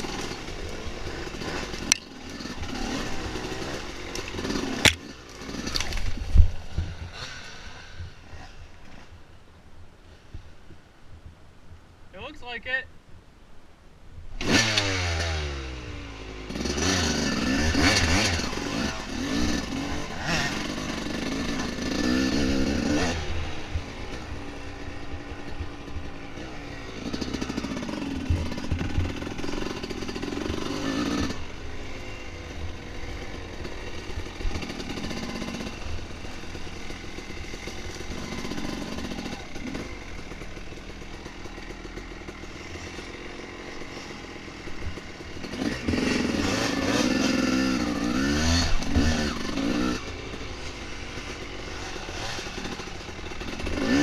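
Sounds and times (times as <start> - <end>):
dirt bike engine revving: 0.0 - 9.2, 14.4 - 54.0.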